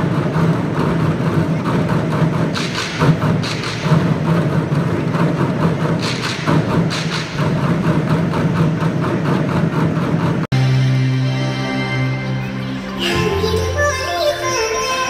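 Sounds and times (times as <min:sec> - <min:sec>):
rhythmic percussion beat: 0:00.0 - 0:13.6.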